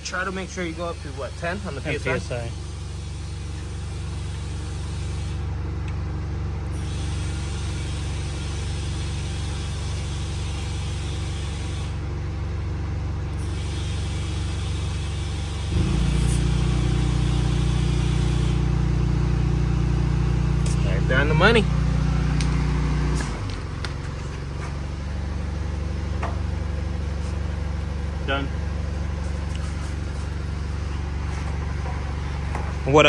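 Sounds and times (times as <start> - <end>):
air compressor running: 0.0 - 33.0.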